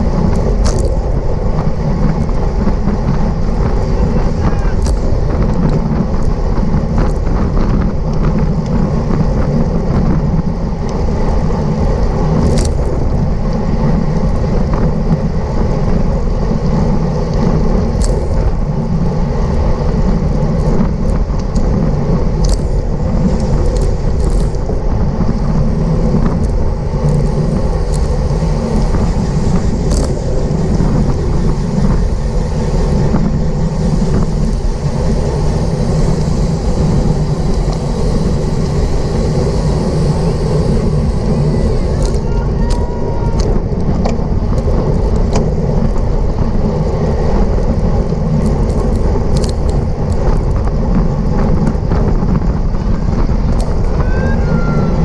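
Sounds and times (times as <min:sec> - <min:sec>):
bicycle tyres rolling: 0:00.0 - 0:55.0
wind rush: 0:00.0 - 0:55.0.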